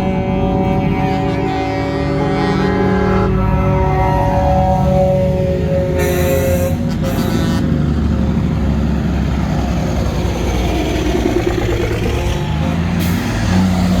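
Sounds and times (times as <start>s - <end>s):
truck diesel engines rumbling: 0.0s - 14.0s.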